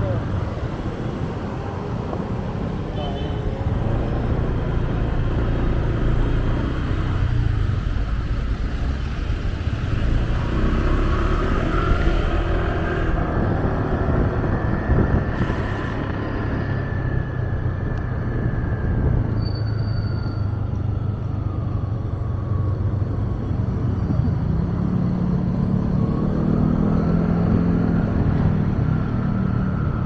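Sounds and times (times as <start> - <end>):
motorcycle engine and road noise: 0.0 - 30.0.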